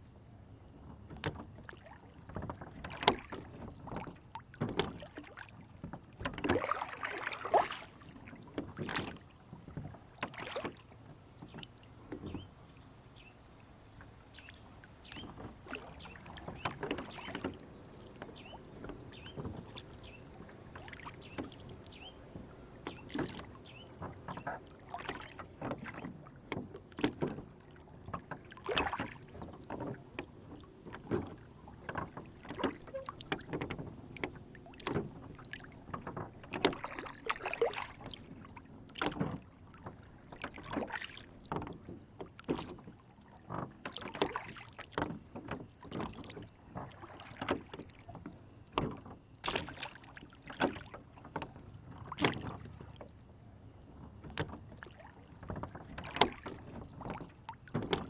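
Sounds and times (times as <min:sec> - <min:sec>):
water lapping against boat: 0:00.0 - 0:58.0.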